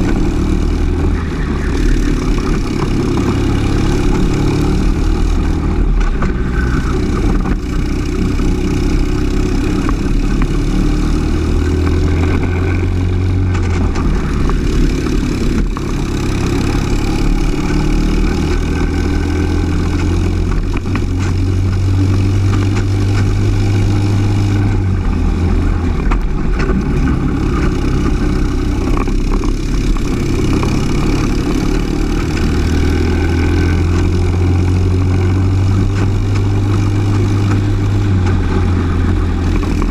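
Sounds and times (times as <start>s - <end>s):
kart engine racing: 0.0s - 39.9s
nearby kart engine: 0.0s - 39.9s.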